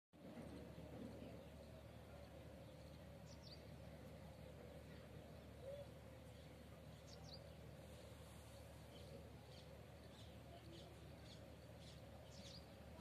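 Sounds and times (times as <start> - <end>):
faint bird chirping: 0.2 - 13.0.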